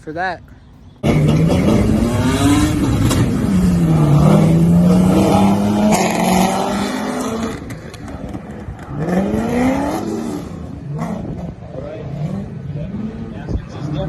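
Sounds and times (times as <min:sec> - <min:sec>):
car engine revving hard: 0:01.0 - 0:14.0.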